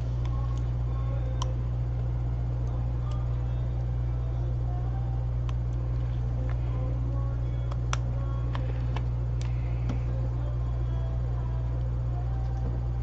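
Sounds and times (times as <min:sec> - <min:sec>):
electrical equipment hum: 0:00.0 - 0:13.0.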